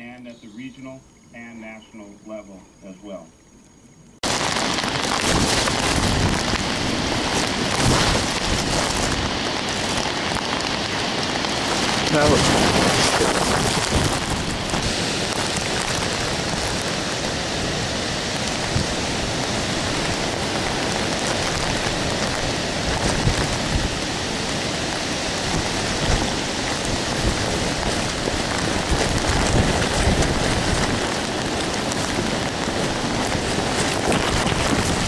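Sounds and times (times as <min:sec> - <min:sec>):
heavy rain hissing: 0:04.2 - 0:35.0.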